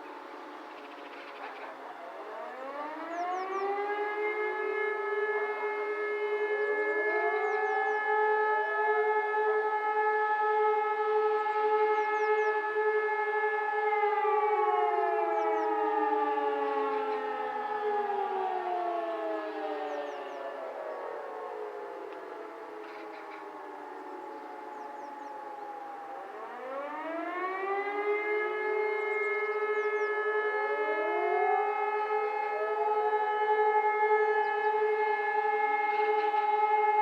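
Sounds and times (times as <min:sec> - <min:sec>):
fire sirens winding: 0:00.0 - 0:37.0.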